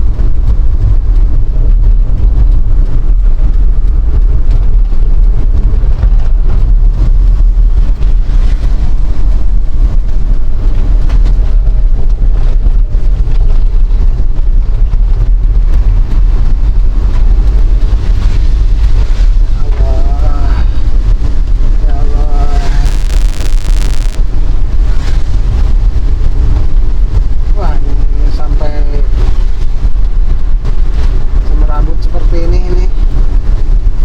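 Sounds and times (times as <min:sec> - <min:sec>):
vehicle road rumble: 0:00.0 - 0:34.0
wind buffeting microphone: 0:00.0 - 0:34.0.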